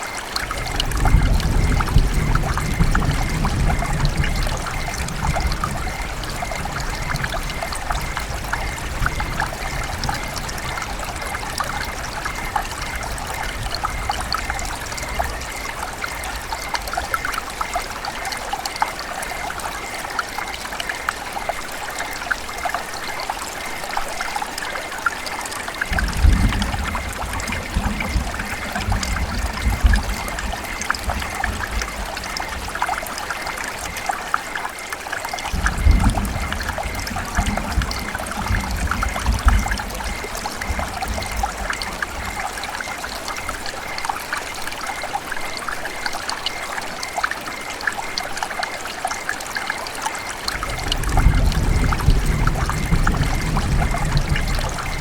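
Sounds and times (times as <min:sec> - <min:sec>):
river water babbling: 0:00.0 - 0:55.0.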